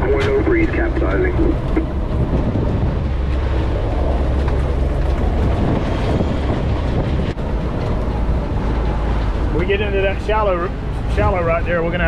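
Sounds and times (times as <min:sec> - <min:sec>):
boat engine running: 0:00.0 - 0:12.0
wind blasting microphone: 0:00.0 - 0:12.0.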